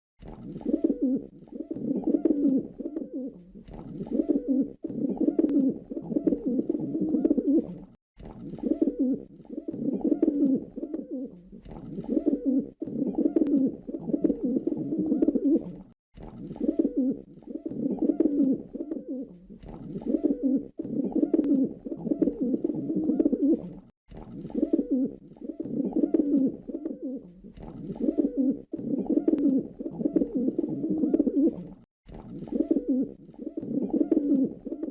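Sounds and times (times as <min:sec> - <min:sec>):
pigeon cooing: 0:00.6 - 0:23.9, 0:24.5 - 0:34.9.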